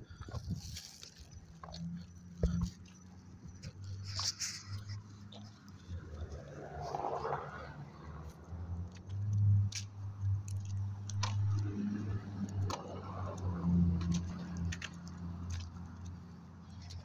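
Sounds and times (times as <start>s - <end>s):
pet chewing with crunchy clicks: 0.0s - 6.8s, 8.2s - 17.0s.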